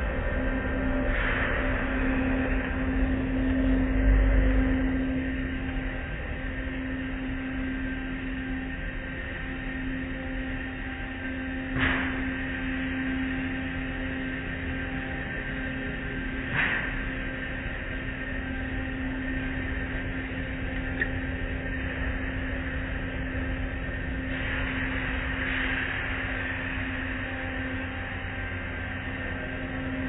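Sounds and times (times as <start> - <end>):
car wash machine hum: 0.0 - 30.0.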